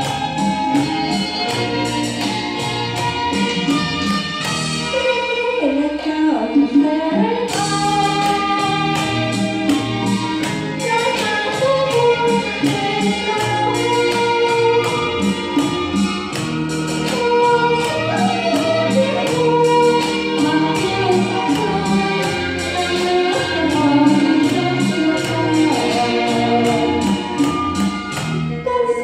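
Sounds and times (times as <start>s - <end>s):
karaoke backing track beat: 0.0s - 29.0s
woman singing into microphone: 3.4s - 29.0s.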